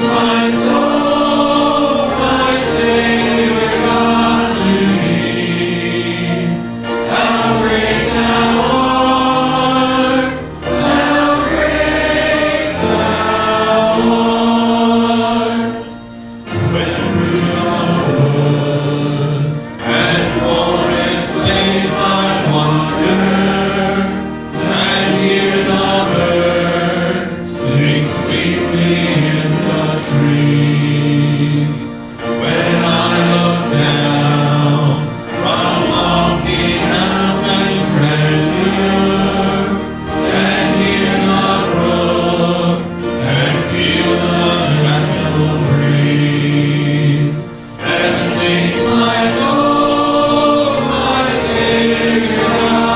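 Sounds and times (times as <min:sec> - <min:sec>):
group singing a hymn: 0:00.0 - 0:52.9
instrumental accompaniment: 0:00.0 - 0:52.9.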